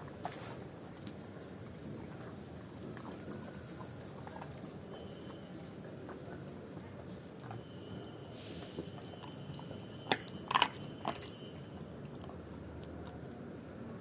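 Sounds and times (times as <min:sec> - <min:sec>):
dog chewing: 0:00.0 - 0:13.5.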